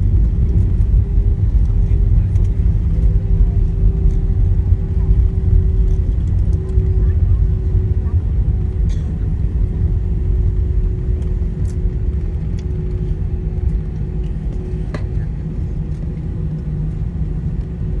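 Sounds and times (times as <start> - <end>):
steady cabin hum: 0.0 - 17.7
airliner cabin rumble: 0.0 - 18.0.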